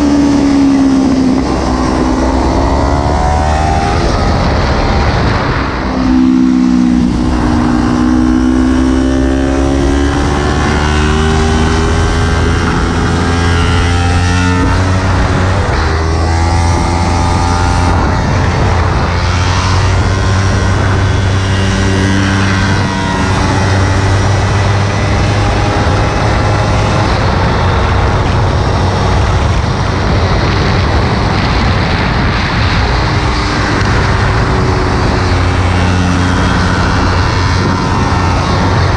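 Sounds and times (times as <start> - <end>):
motorcycle engine revving: 0.0 - 38.9
wind and road noise: 0.0 - 38.9.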